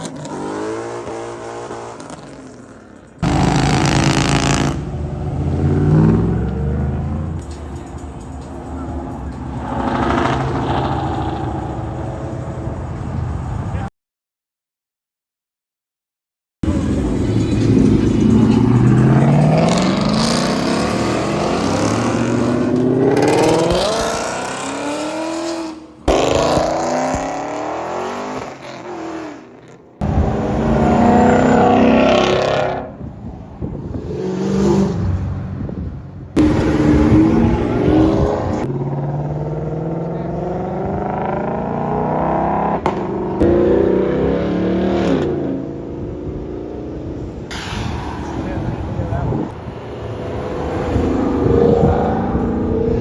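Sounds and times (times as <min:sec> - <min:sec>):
car engines accelerating hard: 0:00.0 - 0:13.9, 0:16.6 - 0:53.0.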